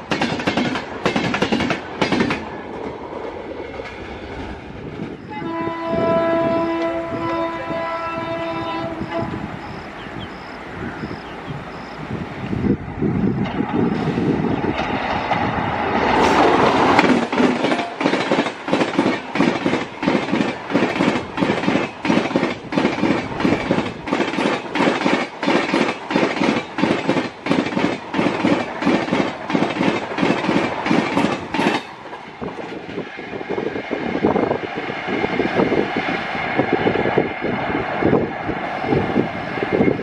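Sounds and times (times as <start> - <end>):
train rushing past: 0.0 - 40.0.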